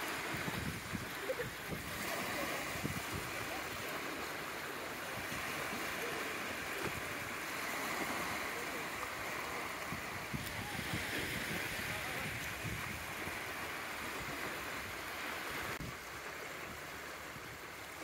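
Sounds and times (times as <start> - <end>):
wind buffeting microphone: 0.0 - 16.0
waves washing onto beach: 0.0 - 18.0.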